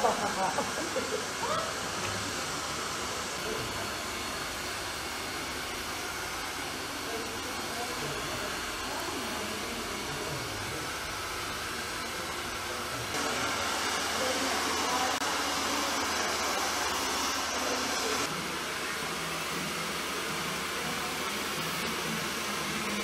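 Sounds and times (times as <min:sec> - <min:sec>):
hair dryers blowing: 0:00.0 - 0:23.0.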